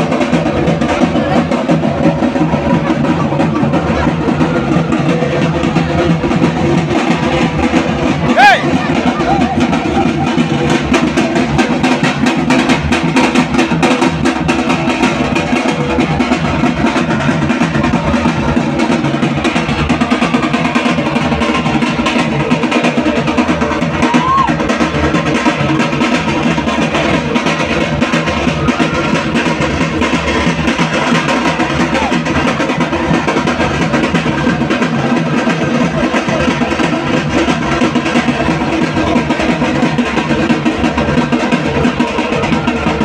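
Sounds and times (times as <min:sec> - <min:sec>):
fast loud drumming: 0:00.0 - 0:43.0
music: 0:00.0 - 0:43.0.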